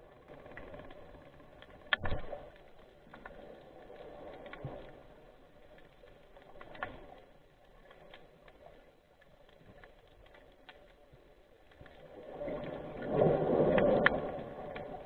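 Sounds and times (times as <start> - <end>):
underwater clicks and crackles: 0.0 - 15.0.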